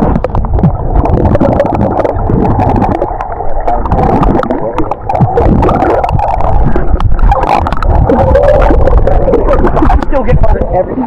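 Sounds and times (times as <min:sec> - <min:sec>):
small crackles and clicks: 0:00.0 - 0:10.7
muffled underwater gurgling: 0:00.0 - 0:11.0.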